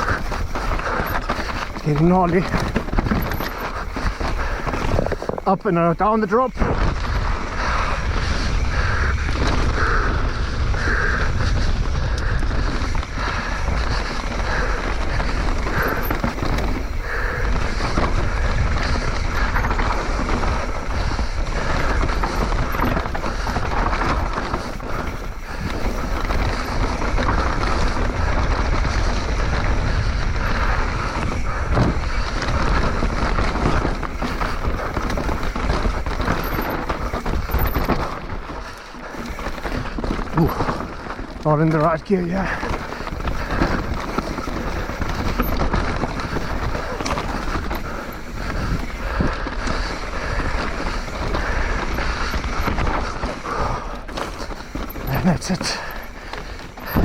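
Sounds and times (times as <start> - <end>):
bike rattling and knocking: 0.0 - 57.0
tyres scrabbling over dirt and rocks: 0.0 - 57.0
wind buffeting microphone: 0.0 - 57.0.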